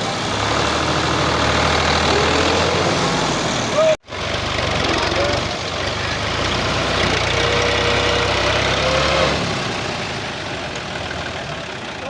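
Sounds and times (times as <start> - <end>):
tractor diesel engine rumbling: 0.0 - 12.0.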